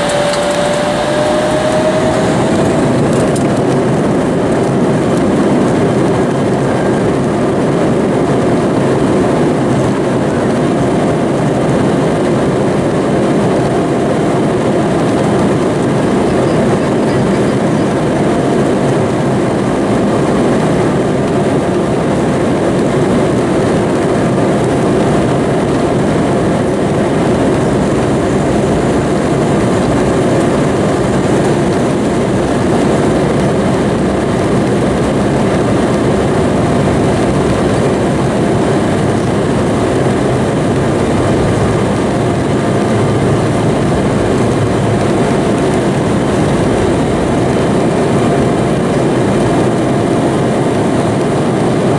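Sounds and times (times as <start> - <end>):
aircraft cabin rumble: 0.0 - 51.9
faint jet engine whine: 0.0 - 51.9.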